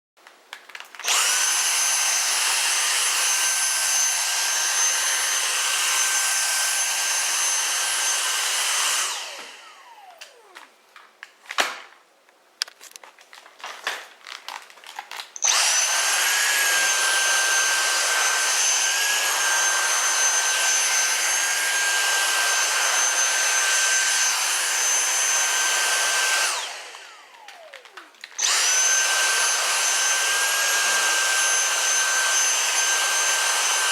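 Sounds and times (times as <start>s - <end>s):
vacuum cleaner running: 1.0s - 10.7s, 15.4s - 33.9s.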